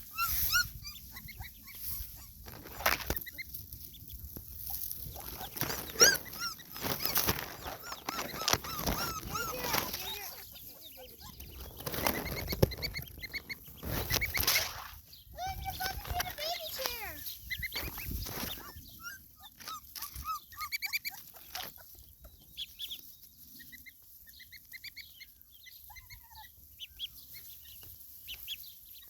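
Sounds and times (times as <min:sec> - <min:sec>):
ducklings peeping: 0:00.0 - 0:29.0.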